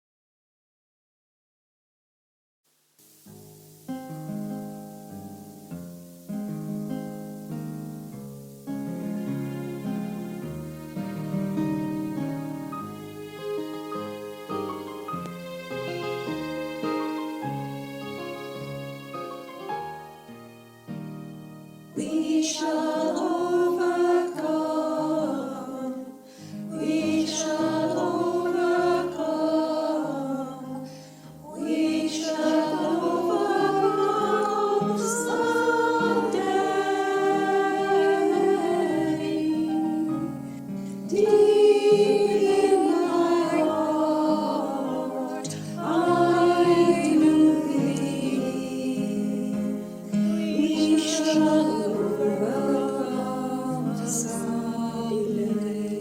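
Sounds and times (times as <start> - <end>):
choir singing a hymn: 8.7 - 56.0.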